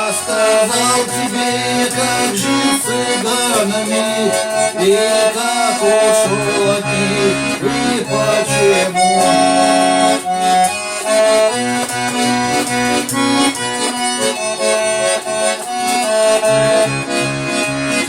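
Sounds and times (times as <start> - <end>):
accordion melody with bass chords: 0.0 - 18.0.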